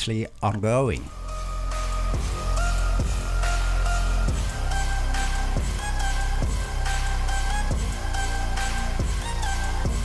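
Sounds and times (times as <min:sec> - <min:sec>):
background music with deep bass: 0:01.0 - 0:10.0.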